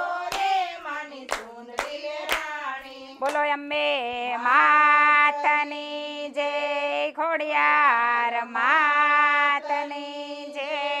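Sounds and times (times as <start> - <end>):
group of women singing a chant: 0.0 - 11.0.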